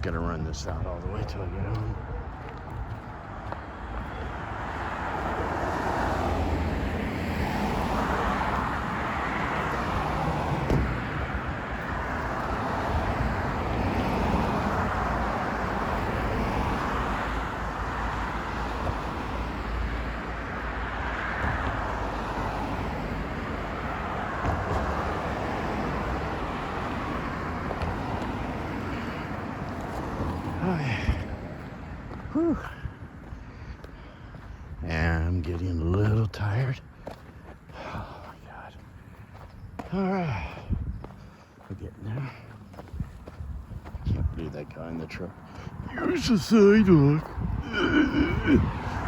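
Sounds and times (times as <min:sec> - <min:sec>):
road traffic rumble: 0:00.0 - 0:49.0
vehicles passing: 0:00.0 - 0:49.0.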